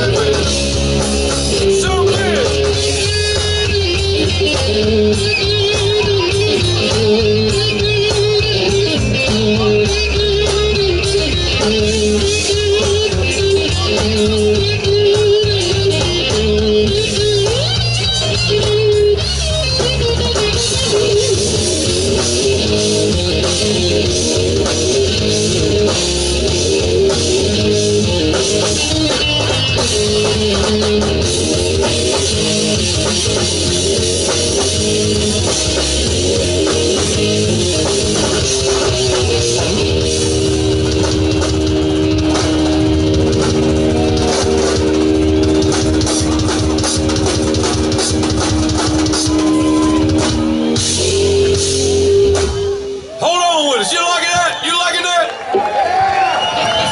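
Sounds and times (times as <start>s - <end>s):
lead electric guitar: 0.0s - 53.2s
bass guitar: 0.0s - 53.4s
drums: 0.0s - 56.9s.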